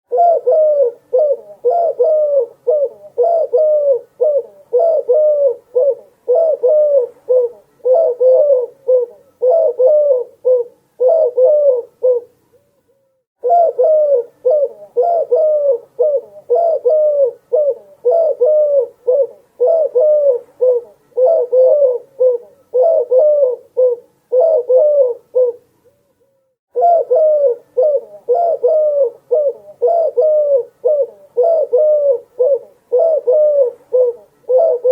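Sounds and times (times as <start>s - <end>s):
dove cooing: 0.1s - 12.4s, 13.4s - 25.7s, 26.7s - 34.9s.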